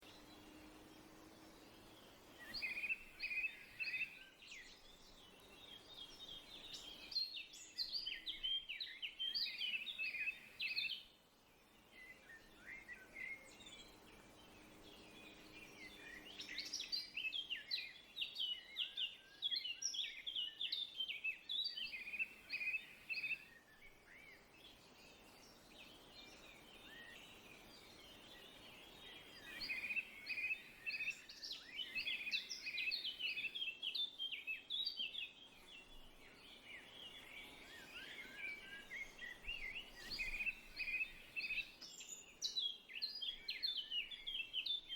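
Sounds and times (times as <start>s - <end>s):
songbird chirping: 0.0s - 44.9s.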